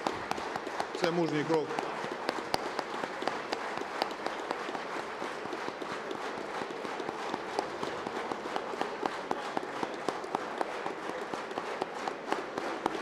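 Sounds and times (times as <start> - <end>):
crowd applauding: 0.0 - 13.0
sharp single claps: 0.0 - 13.0.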